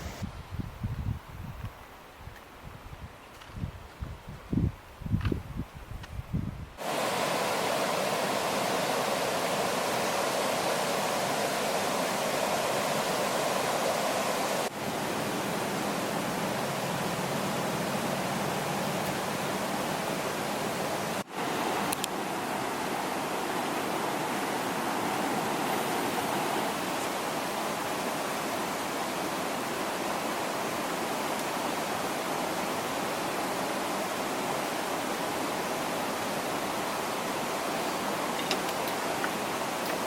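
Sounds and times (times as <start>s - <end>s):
running water rushing: 6.8s - 40.0s.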